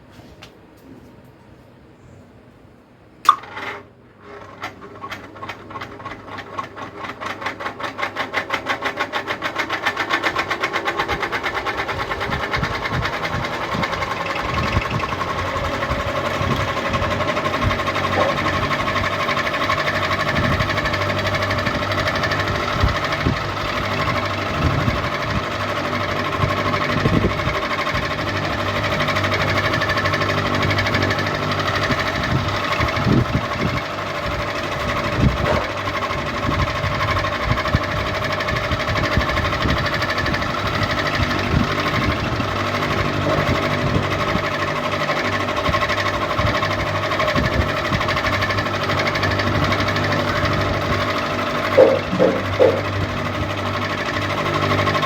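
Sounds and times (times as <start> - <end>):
ceiling fan whirring: 0.0 - 55.0.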